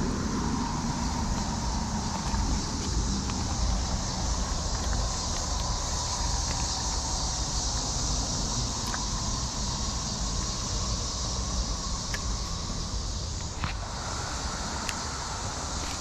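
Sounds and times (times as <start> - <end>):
continuous high hiss: 0.0 - 16.0
low rumble: 0.0 - 16.0.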